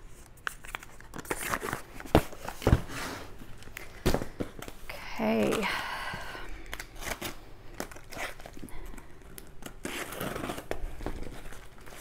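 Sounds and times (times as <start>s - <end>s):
packaging crinkling and rustling: 0.1s - 5.6s, 6.6s - 12.0s.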